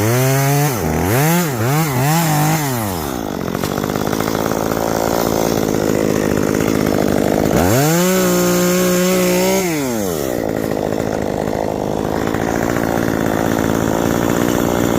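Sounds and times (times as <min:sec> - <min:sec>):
chainsaw engine idling and revving: 0:00.0 - 0:14.9.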